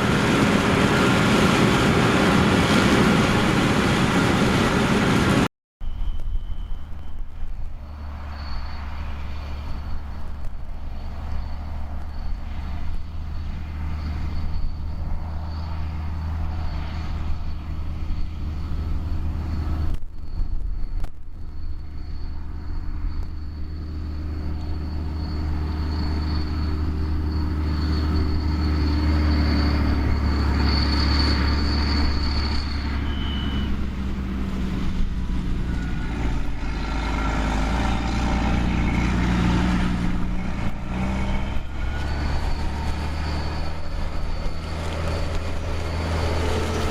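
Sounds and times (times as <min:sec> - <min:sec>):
diesel engine drone: 0:00.0 - 0:46.9
high whine: 0:00.0 - 0:46.9.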